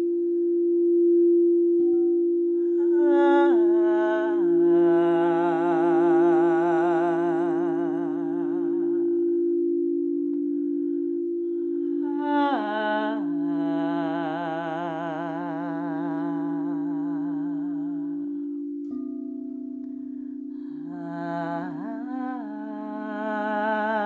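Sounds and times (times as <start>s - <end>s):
person humming with vibrato: 0.0s - 24.0s
singing bowl ringing: 0.0s - 24.0s.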